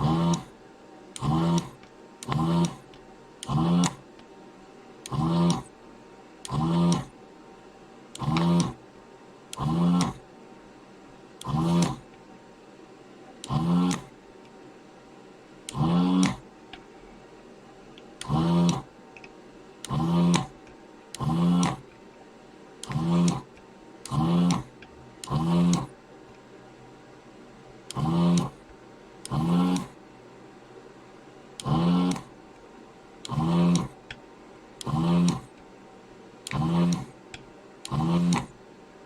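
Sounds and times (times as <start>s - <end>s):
vacuum pump humming: 0.0s - 39.0s.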